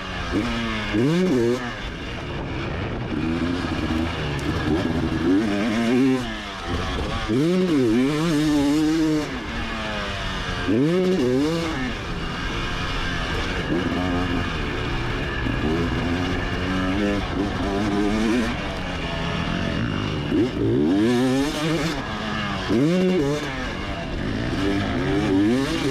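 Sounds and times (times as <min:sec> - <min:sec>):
motocross bike engine revving: 0:00.0 - 0:25.9.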